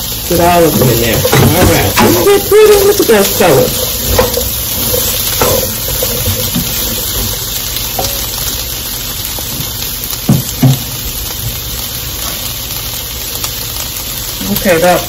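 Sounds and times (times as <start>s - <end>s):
vegetables sizzling in wok: 0.0s - 15.0s.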